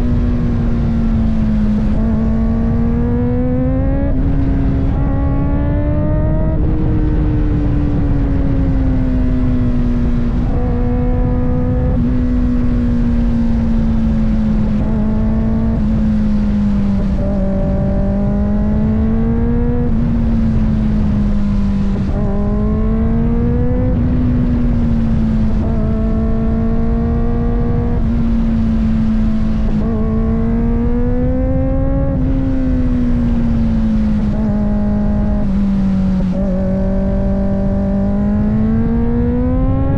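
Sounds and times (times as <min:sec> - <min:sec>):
motorcycle engine shifting gears: 0:00.0 - 0:39.9
wind noise on microphone: 0:00.0 - 0:39.9.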